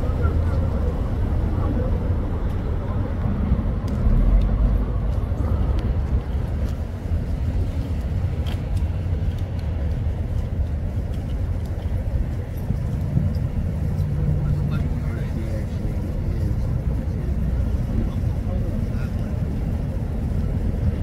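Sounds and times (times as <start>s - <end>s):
low rumble of motor vehicles: 0.0s - 21.0s.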